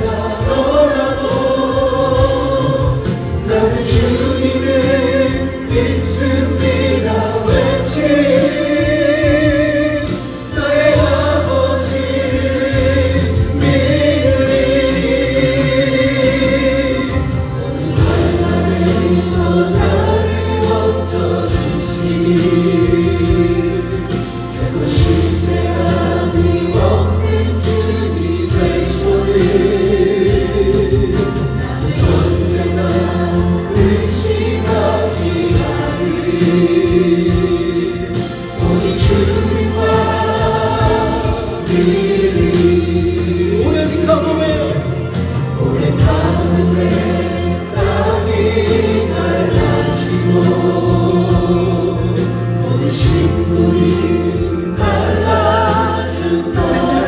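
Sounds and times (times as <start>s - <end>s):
choir singing a hymn: 0.0s - 57.0s
instrumental accompaniment with bass: 0.0s - 57.0s.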